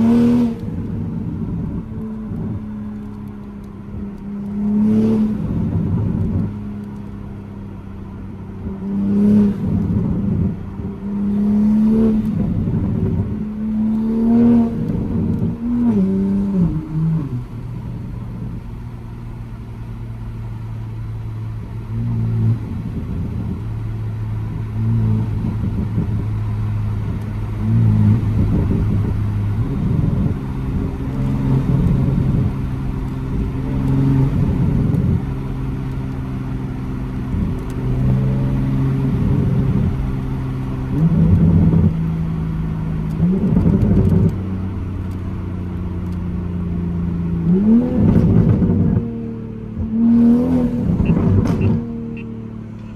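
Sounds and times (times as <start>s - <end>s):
loud car exhaust while driving: 0.0s - 52.9s.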